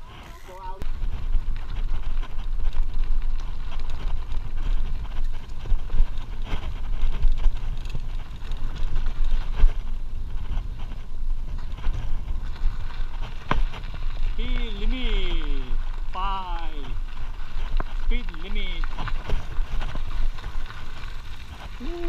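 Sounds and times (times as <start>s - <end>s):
bike clicks and rattles: 0.0s - 22.0s
tyres on dirt and gravel: 0.0s - 22.0s
wind buffeting microphone: 0.0s - 22.0s.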